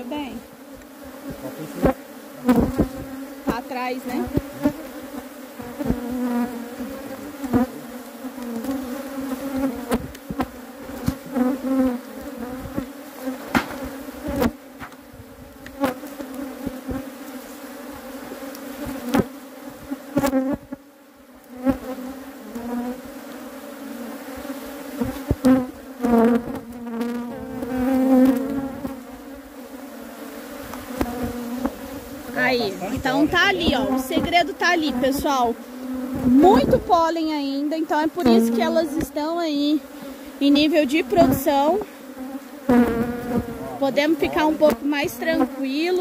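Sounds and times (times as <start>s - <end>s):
bees buzzing: 0.0s - 46.0s
single bees flying past: 0.0s - 46.0s.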